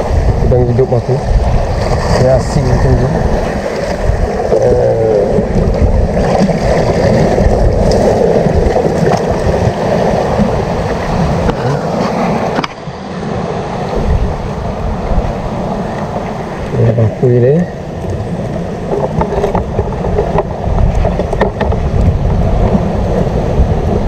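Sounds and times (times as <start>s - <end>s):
sea waves washing over rocks: 0.0s - 24.0s
wind buffeting microphone: 0.0s - 24.0s.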